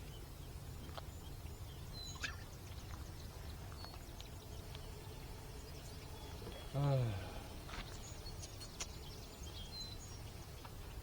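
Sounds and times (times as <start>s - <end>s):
faint bird chirps: 0.0s - 11.0s
low rumble of wind: 0.0s - 11.0s.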